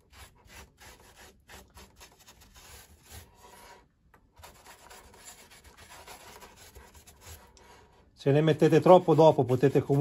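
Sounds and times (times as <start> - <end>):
paintbrush rubbing strokes: 0.0 - 10.0.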